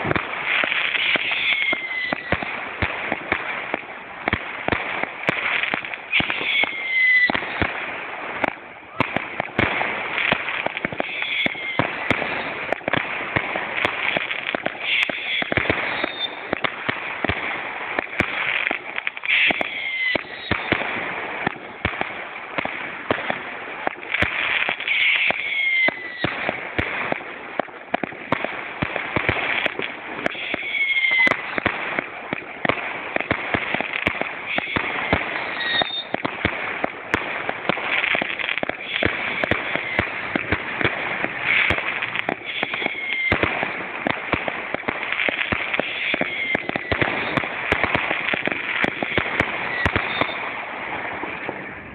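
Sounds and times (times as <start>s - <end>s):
fireworks crackling and banging: 0.0s - 51.9s.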